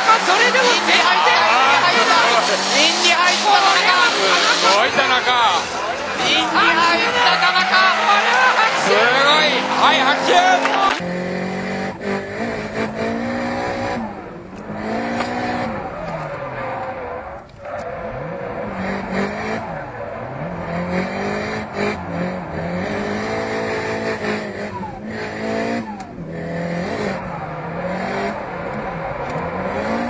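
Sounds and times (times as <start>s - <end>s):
tyres squealing: 0.0s - 11.0s, 13.3s - 30.0s
car engine revving: 0.0s - 30.0s.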